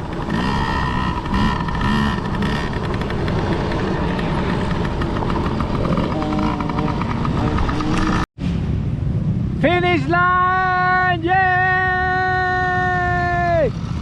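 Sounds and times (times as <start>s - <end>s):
dirt bike engines racing: 0.0s - 14.0s.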